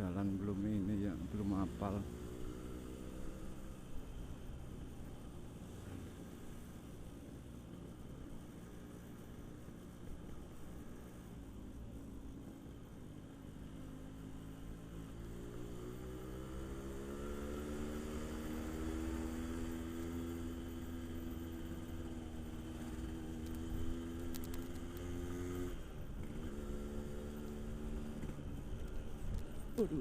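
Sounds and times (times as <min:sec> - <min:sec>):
two-stroke motorcycle engine: 0:00.0 - 0:30.0.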